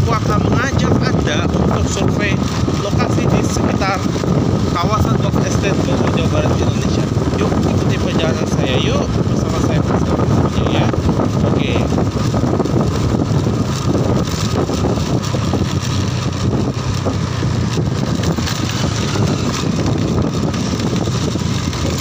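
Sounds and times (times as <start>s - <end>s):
scooter engine hum: 0.0s - 22.0s
tyres on road: 0.0s - 22.0s
wind buffeting microphone: 0.0s - 22.0s.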